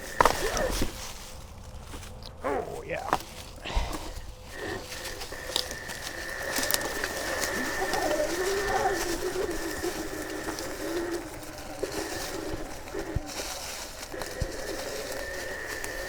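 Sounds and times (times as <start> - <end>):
electric motorcycle whining: 0.0 - 1.2, 3.1 - 16.0
twigs snapping against bike: 0.0 - 2.4, 3.0 - 16.0.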